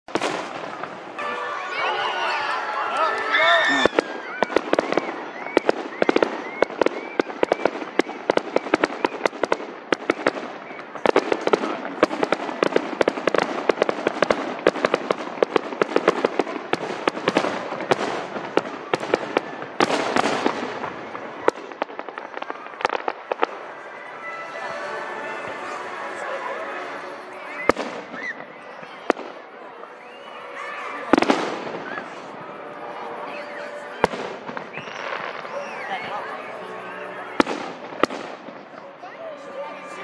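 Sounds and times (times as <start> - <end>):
fireworks crackling and popping: 0.0 - 40.0.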